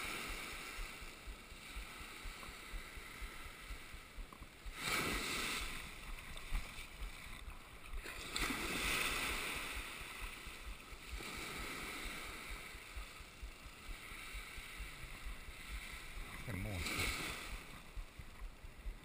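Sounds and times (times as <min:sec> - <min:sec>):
small surf waves washing up: 0:00.0 - 0:19.0.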